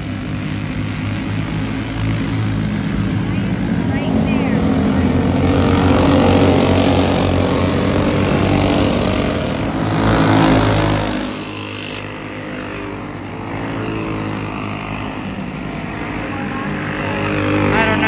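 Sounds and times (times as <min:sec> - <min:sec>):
racing kart engines: 0:00.0 - 0:18.0.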